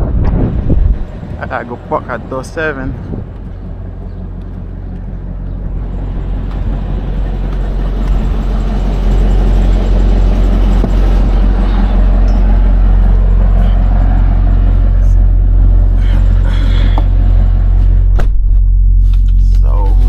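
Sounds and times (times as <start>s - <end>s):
truck diesel engine from cab: 0.1s - 20.0s.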